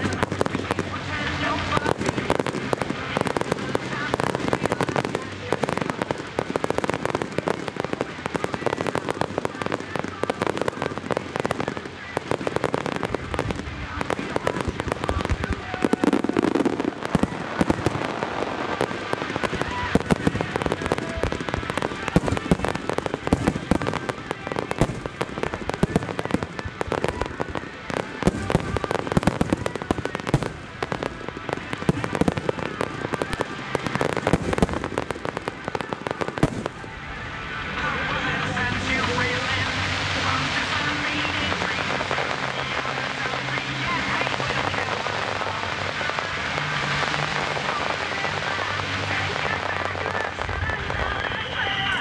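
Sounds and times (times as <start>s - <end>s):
fireworks bursting in dense bangs: 0.0s - 52.0s.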